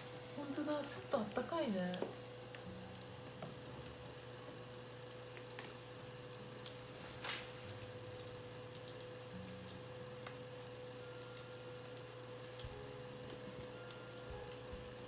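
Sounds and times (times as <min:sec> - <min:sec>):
heater hum: 0:00.0 - 0:15.0.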